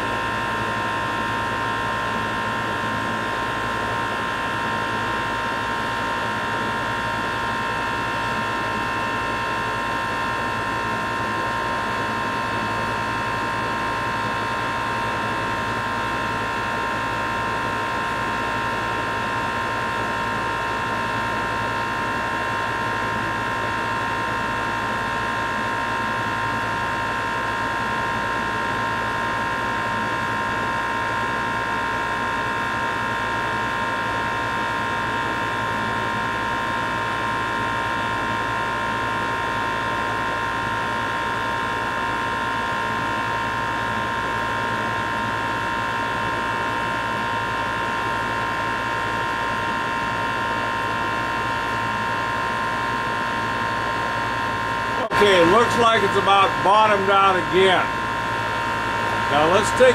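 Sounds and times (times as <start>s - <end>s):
heat pump drone with high whine: 0.0s - 59.9s.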